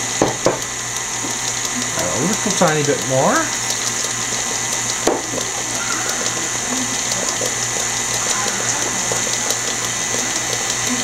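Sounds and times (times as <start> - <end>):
beater churning thick batter: 0.0 - 11.0
stand mixer running: 0.0 - 11.0.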